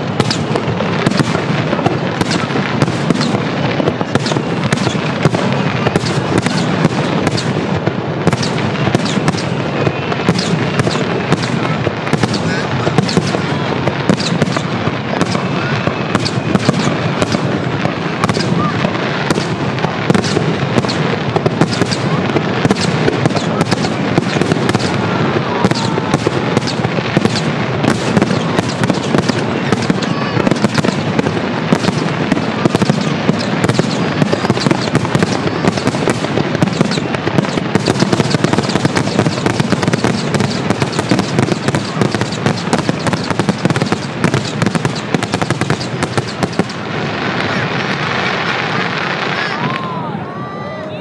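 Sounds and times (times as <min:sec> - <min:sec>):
fireworks booming and crackling: 0:00.0 - 0:51.0.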